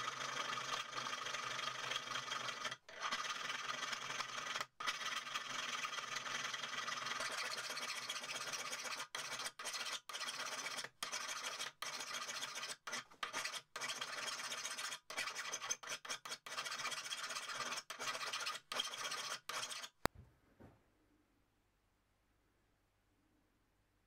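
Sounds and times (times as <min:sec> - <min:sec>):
file rasping on steel: 0:00.0 - 0:20.1.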